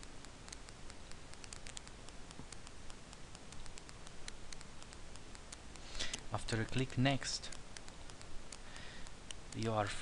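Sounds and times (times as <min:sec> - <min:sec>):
low hiss: 0:00.0 - 0:10.0
rapid ticking clicks: 0:00.0 - 0:10.0.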